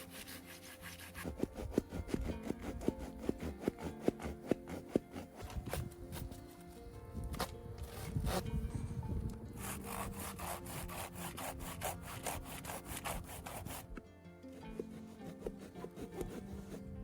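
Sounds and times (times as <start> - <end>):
hand saw cutting wood: 0.0 - 6.6, 7.3 - 8.6, 9.5 - 17.0.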